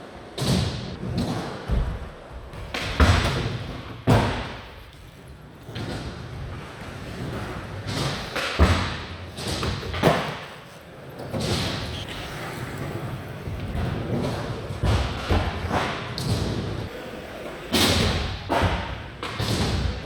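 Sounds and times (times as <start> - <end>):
skateboard wheels rolling: 0.0 - 20.0
skateboard impacts and slams: 0.4 - 5.0, 5.6 - 12.0, 13.6 - 17.0, 17.6 - 20.0.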